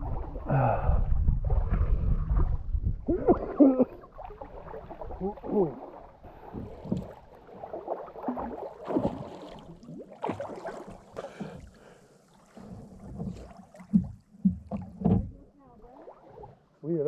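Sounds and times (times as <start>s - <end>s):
water splashing around swimmers: 0.0s - 16.8s.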